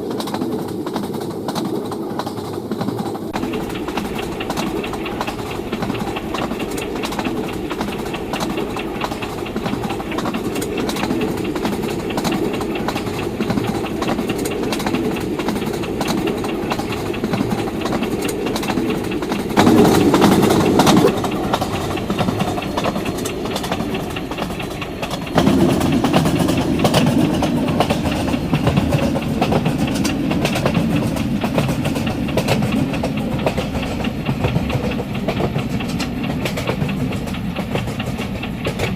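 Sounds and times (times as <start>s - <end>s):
train wheels clattering on track: 0.0s - 38.9s.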